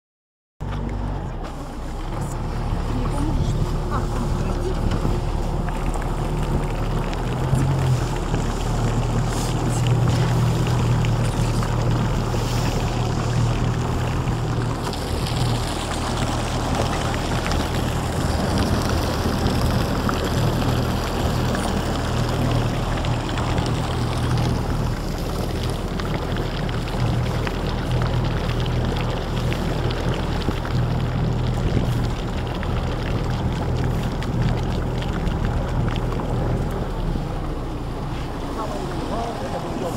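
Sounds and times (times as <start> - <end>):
motorboat engine droning: 0.6 - 39.9
water wash: 0.6 - 39.9
wind: 0.6 - 39.9.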